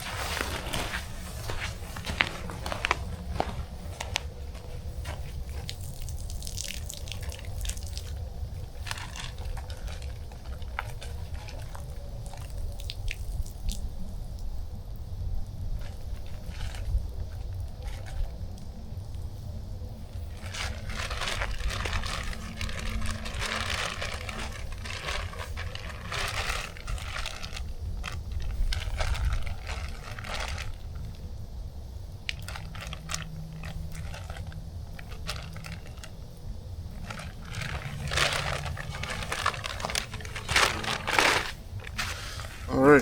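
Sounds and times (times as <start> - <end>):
crinkling and rustling of handling: 0.0 - 13.2, 15.8 - 18.7, 20.0 - 31.3, 32.2 - 43.0.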